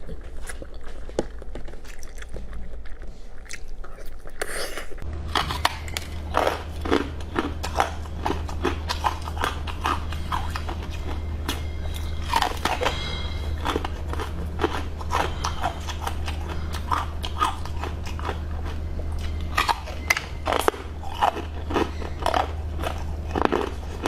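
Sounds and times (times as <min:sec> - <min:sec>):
biting and chewing food: 0:00.0 - 0:24.0.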